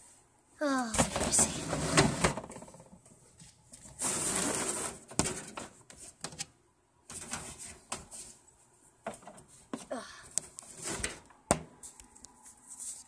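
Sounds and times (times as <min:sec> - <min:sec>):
rustling handling noise: 0:00.9 - 0:13.0.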